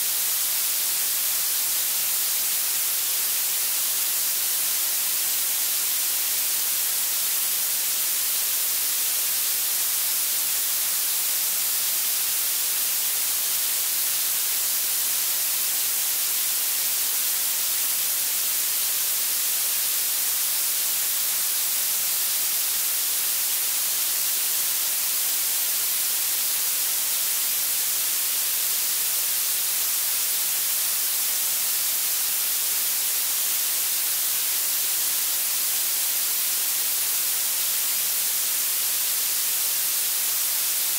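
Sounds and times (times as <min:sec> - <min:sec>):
blue noise hiss: 0:00.0 - 0:40.9.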